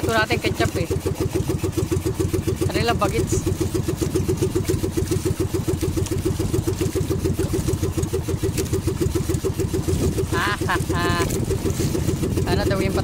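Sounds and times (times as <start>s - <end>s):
small boat engine chugging: 0.0s - 13.0s.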